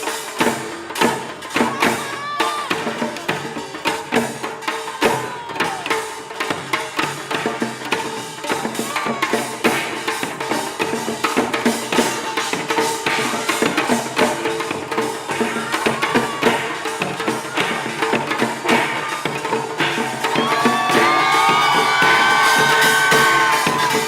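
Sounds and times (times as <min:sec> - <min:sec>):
percussion ensemble drums and gongs: 0:00.0 - 0:24.0.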